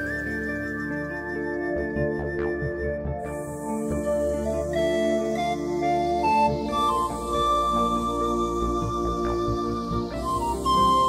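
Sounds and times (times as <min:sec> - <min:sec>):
music with long held notes: 0:00.0 - 0:11.0.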